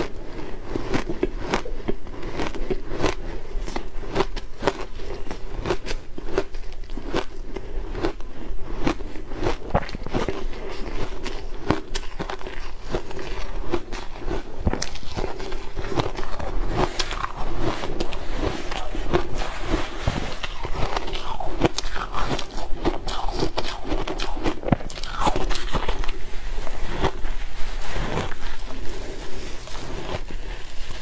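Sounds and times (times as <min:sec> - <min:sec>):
ice crunching as chewed: 0:00.0 - 0:31.0.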